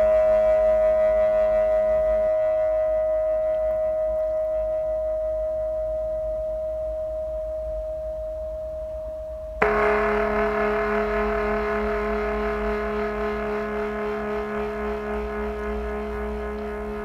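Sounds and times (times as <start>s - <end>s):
lower ringing tone: 0.0s - 17.0s
sustained ringing tone: 0.0s - 17.0s.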